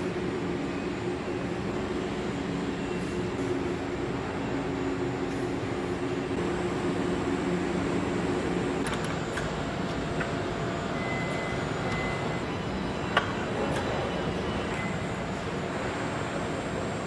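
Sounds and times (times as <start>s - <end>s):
industrial machine hum: 0.0s - 17.0s.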